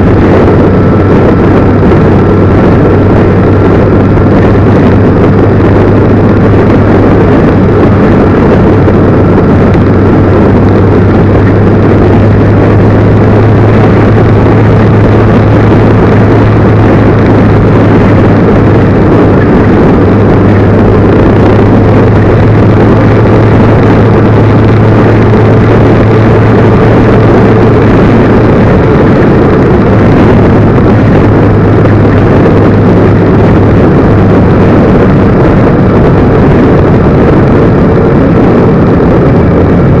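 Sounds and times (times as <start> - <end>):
vehicle engine running: 0.0 - 40.0.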